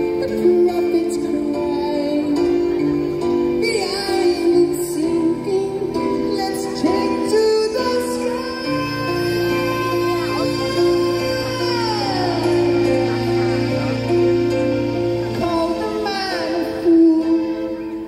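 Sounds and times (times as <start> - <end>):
music with singing voice: 0.0 - 18.0.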